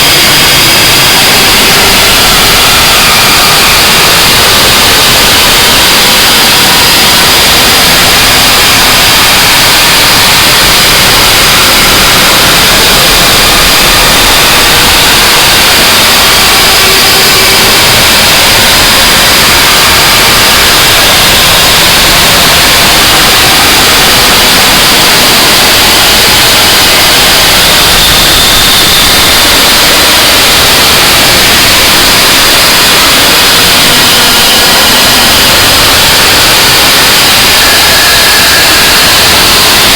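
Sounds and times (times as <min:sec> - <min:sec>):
harsh distorted static noise: 0:00.0 - 0:39.9.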